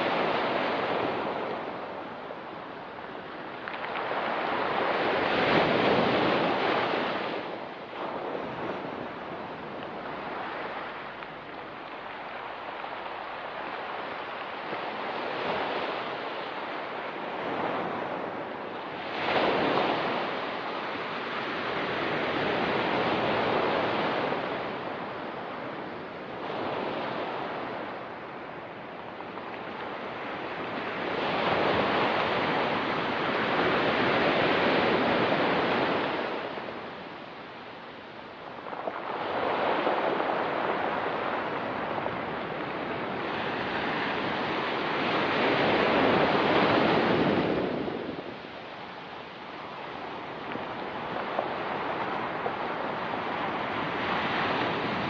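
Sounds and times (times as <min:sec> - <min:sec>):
waves washing onto rocky beach: 0:00.0 - 0:55.0.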